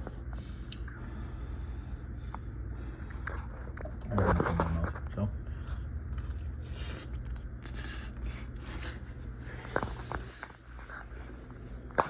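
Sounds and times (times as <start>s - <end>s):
low room hum: 0.0s - 12.0s
person chewing pasta: 2.2s - 12.0s.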